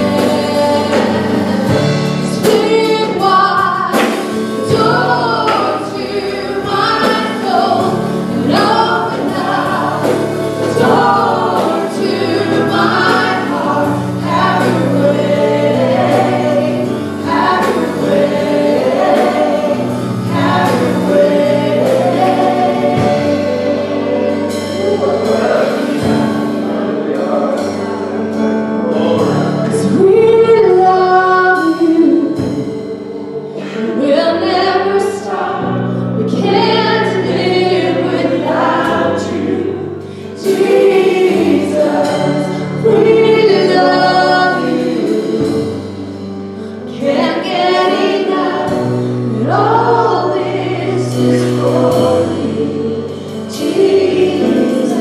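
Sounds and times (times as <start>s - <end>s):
keyboard chords and band: 0.0s - 55.0s
women singing worship song: 0.0s - 55.0s.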